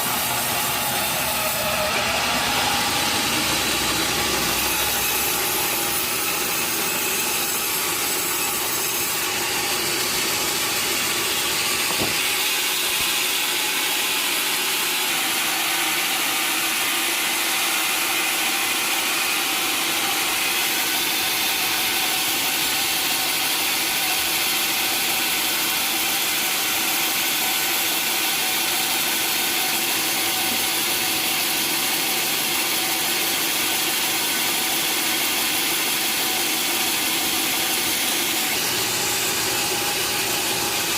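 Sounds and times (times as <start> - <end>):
saw rasping through log: 0.0 - 40.9.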